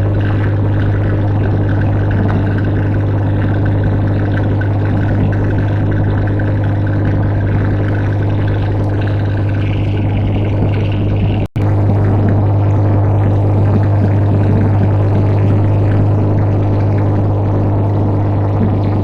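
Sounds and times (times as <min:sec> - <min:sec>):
boat engine low drone: 0:00.0 - 0:19.0
water wash: 0:00.0 - 0:19.0.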